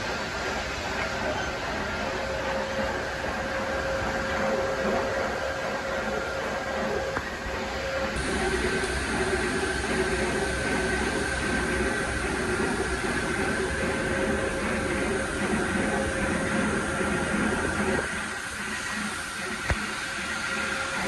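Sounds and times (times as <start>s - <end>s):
electric hoist motor running: 0.0s - 21.0s
steady machine hum: 0.0s - 21.0s.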